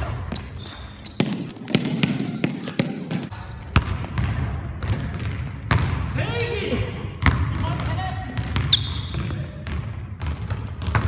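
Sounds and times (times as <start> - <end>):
sneakers squeaking on court: 0.0 - 11.0
basketball bouncing on hardwood floor: 0.3 - 6.1, 7.2 - 11.0.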